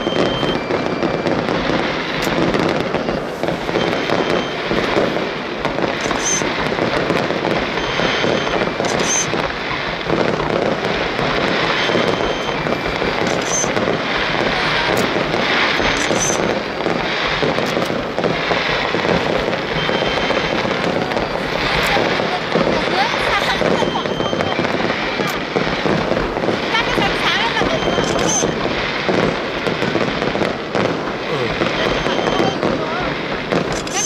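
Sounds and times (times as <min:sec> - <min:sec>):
fireworks bursting and crackling: 0:00.0 - 0:34.0.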